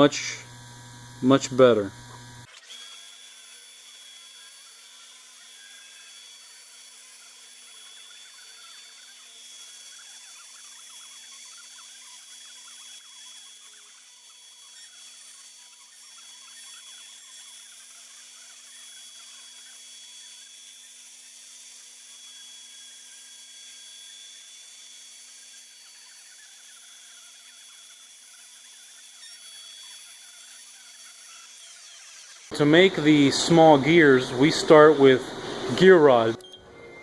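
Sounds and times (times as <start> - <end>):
machine motor running: 0.0 - 22.2, 23.7 - 37.0.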